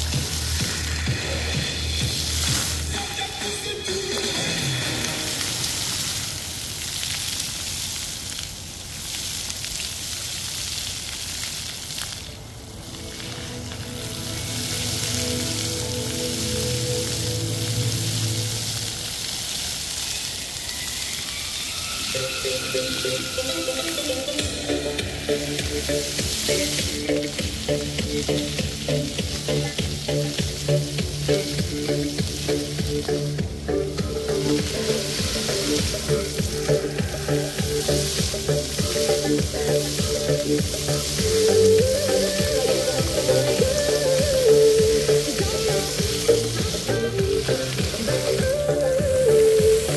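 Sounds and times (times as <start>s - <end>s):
fountain jets splashing: 0.0s - 49.9s
fountain show music: 0.0s - 49.9s.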